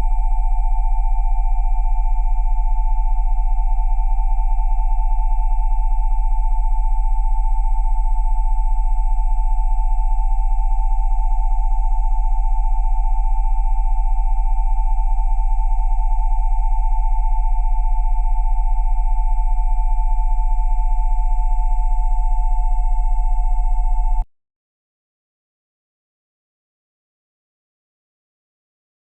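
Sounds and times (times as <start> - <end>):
steady electronic sine tones: 0.0 - 24.2.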